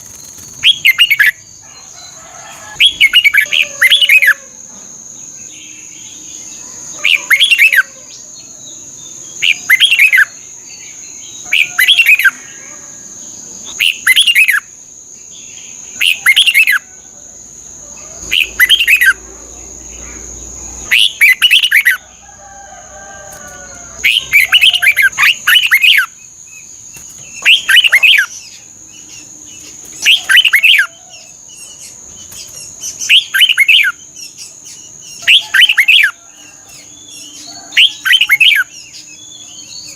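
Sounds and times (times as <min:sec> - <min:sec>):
bird singing warbling phrases: 0:00.0 - 0:01.9, 0:02.8 - 0:04.7, 0:05.3 - 0:17.0, 0:17.8 - 0:22.1, 0:23.6 - 0:39.9.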